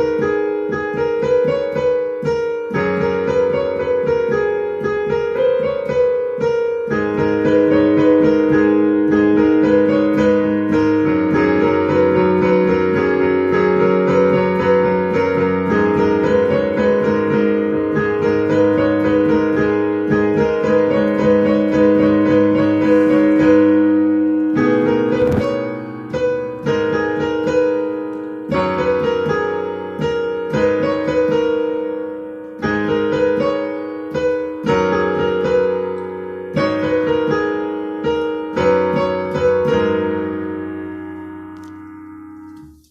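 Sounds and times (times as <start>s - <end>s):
piano playing chords and melody: 0.0s - 42.9s.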